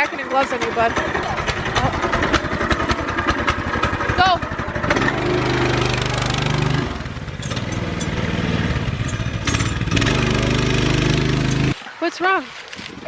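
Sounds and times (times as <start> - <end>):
small gasoline engine running hard: 0.0 - 11.8.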